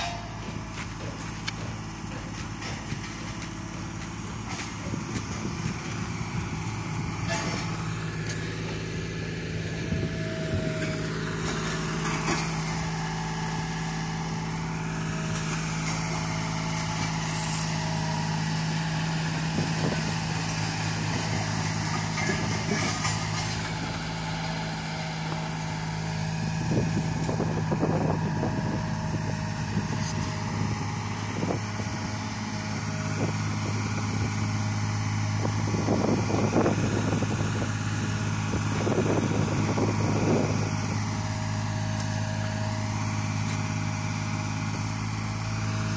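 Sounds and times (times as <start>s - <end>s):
heavy machinery engine running: 0.0s - 45.9s.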